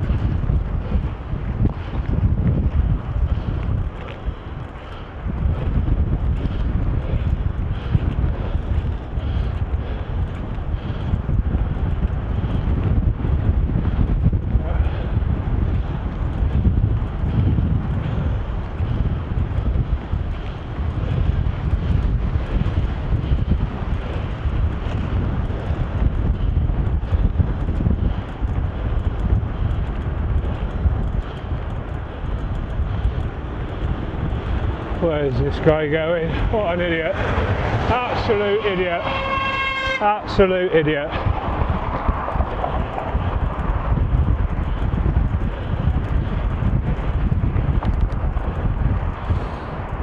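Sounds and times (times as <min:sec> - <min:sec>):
vehicle driving rumble: 0:00.0 - 0:50.0
wind buffeting microphone: 0:00.0 - 0:50.0.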